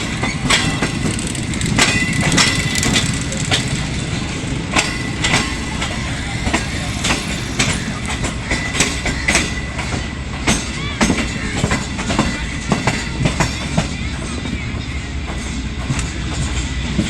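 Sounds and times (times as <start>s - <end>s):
low train rumble: 0.0s - 17.0s
train wheels clicking over rail joints: 0.0s - 17.0s.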